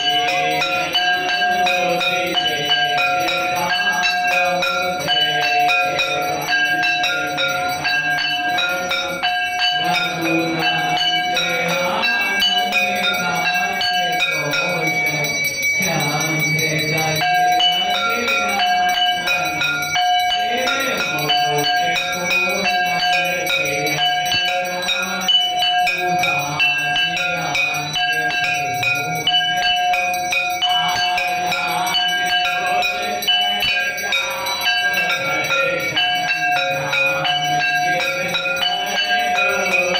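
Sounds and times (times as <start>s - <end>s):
faint voices: 0.0s - 39.9s
temple bells ringing: 0.0s - 39.9s.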